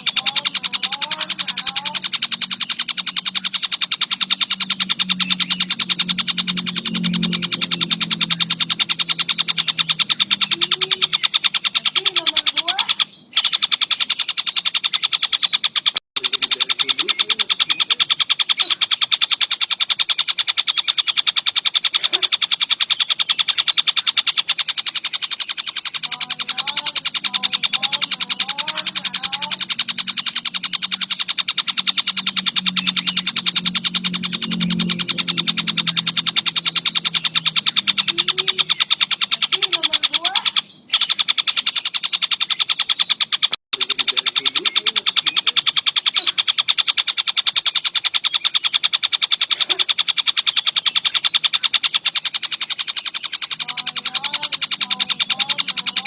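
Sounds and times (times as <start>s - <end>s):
kingfisher rattling trill: 0.0s - 56.0s
other birds chirping: 0.0s - 56.0s.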